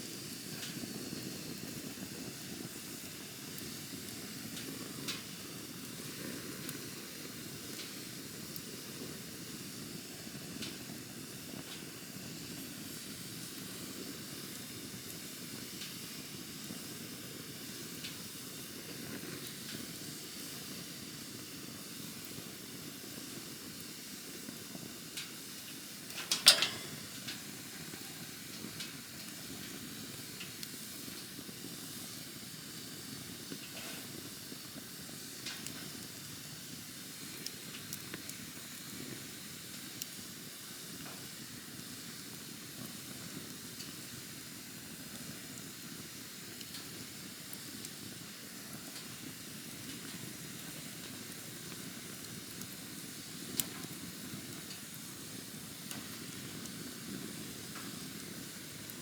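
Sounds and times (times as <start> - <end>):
campfire flames rushing: 0.0 - 59.0
fire crackling and popping: 0.0 - 59.0.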